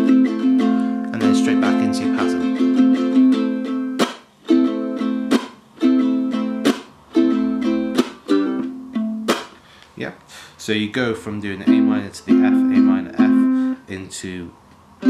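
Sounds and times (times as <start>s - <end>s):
ukulele chords strummed: 0.0s - 9.6s, 11.2s - 13.8s.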